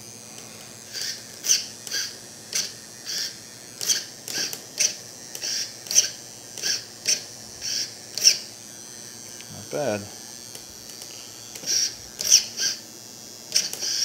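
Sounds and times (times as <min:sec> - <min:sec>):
steering servo whirring: 0:00.0 - 0:14.0.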